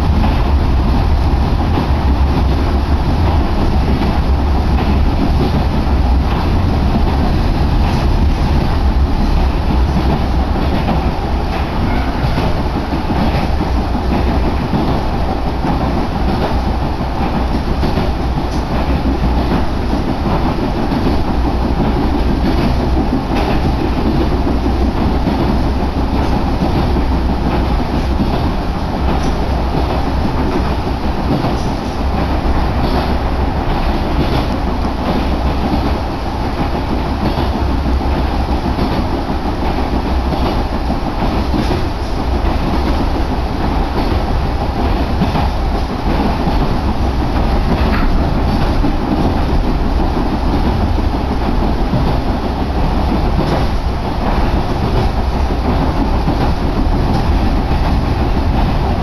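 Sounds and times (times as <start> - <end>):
train wheels rumbling on track: 0.0 - 59.0
wheels clacking over rail joints: 0.0 - 59.0.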